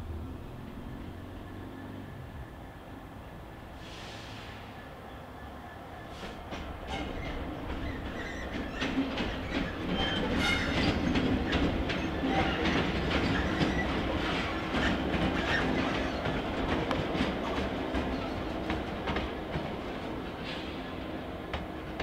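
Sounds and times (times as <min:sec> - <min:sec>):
diesel locomotive engine: 0:00.0 - 0:22.0.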